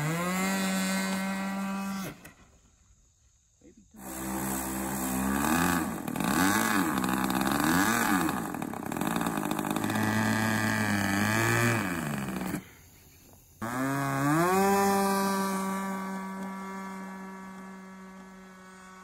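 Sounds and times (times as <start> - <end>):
model plane engine revving: 0.0 - 2.4, 4.0 - 12.9, 13.6 - 19.0.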